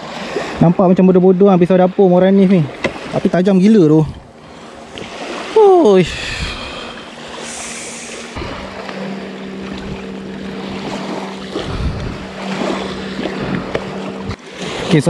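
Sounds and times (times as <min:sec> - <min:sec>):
waves along a shoreline: 0:00.0 - 0:15.0
wind: 0:00.0 - 0:15.0
low hum: 0:00.1 - 0:15.0.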